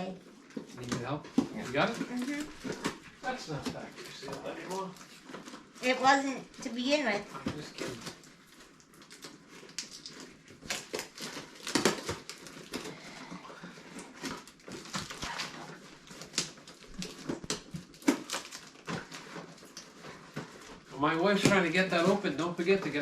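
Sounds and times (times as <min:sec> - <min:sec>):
plastic packaging crinkling and snapping: 0:00.3 - 0:23.0.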